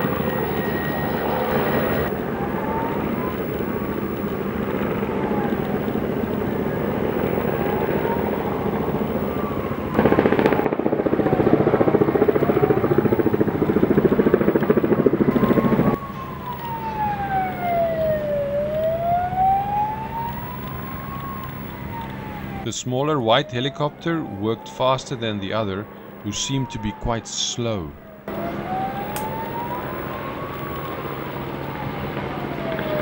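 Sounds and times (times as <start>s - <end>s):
helicopter rotor noise: 0.0s - 33.0s
siren wailing: 0.0s - 33.0s.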